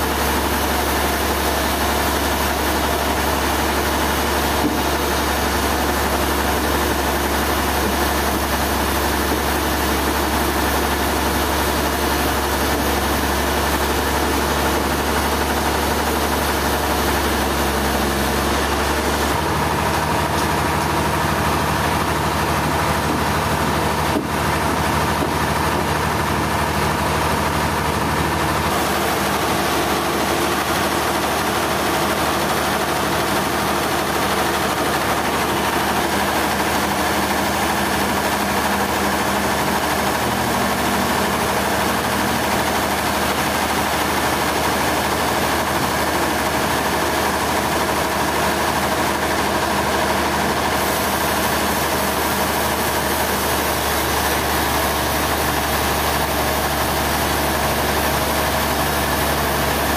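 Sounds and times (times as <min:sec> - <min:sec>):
large engine running steadily: 0:00.0 - 0:59.9.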